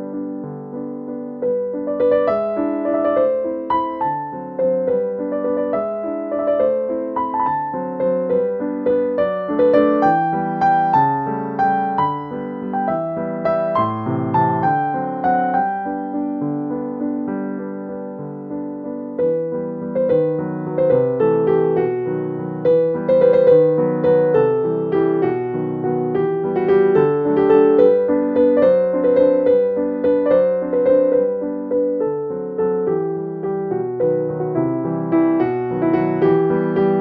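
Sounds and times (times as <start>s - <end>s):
gentle piano music: 0.0s - 37.0s.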